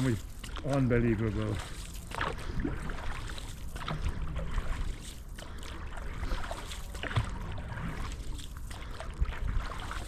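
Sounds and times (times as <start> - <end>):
paddle dipping in water: 0.0 - 10.0
water splashing: 0.0 - 10.0.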